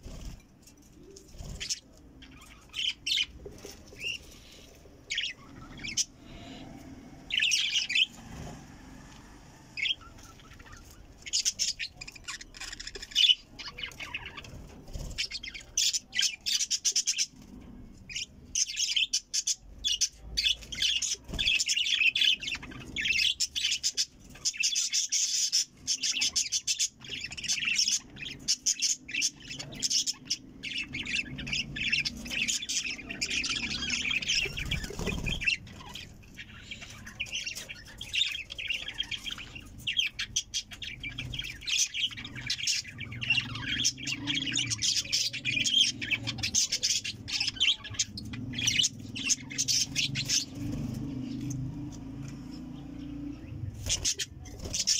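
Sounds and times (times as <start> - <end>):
budgerigars chattering and chirping: 1.0 - 8.6, 9.8 - 54.9.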